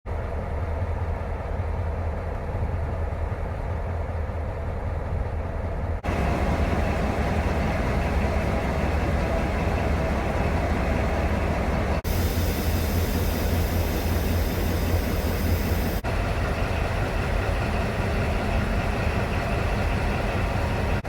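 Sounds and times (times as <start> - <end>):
diesel locomotive rumbling: 0.1 - 21.0.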